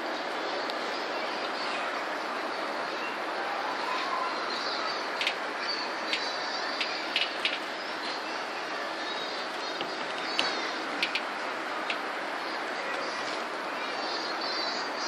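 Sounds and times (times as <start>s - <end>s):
birds chirping: 0.0s - 15.0s
heavy rain: 0.0s - 15.0s.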